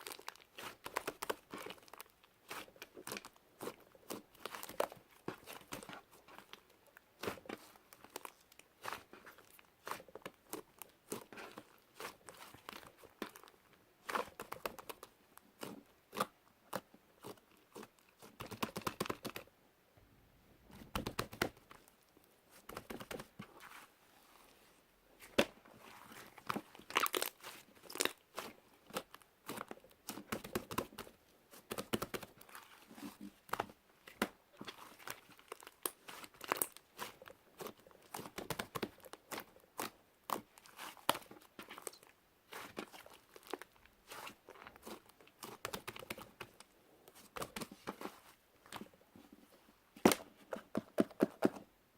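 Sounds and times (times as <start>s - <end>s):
slime squished by hand crackling: 0.0s - 19.5s, 25.2s - 48.8s.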